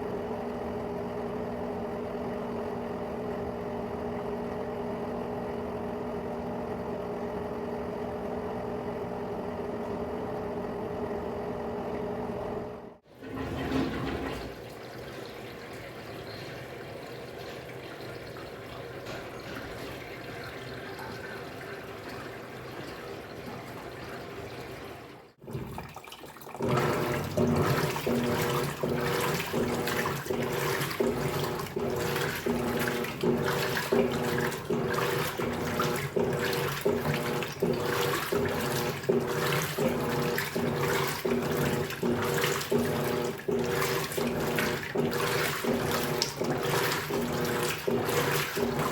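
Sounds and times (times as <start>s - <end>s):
washing machine motor hum: 0.0s - 48.9s
washing machine water noise: 0.0s - 48.9s.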